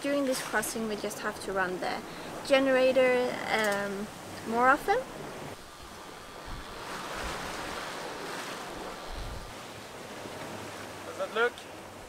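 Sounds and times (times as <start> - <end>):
water rushing along boat hull: 0.0 - 12.0
wind buffeting microphone: 0.7 - 11.0.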